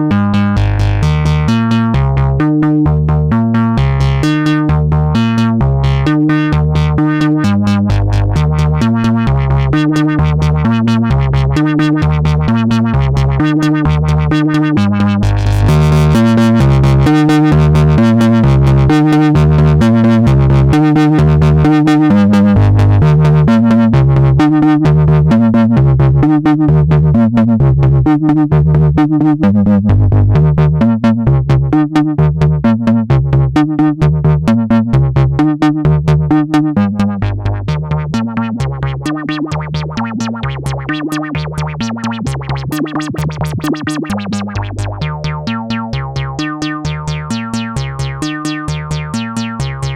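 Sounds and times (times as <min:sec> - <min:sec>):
synthesizer sequenced bass line: 0:00.0 - 0:49.9.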